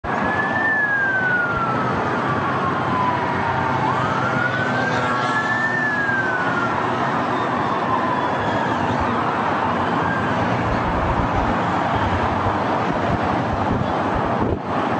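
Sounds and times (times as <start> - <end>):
city noise: 0.0 - 14.9
emergency siren wailing: 0.1 - 14.9.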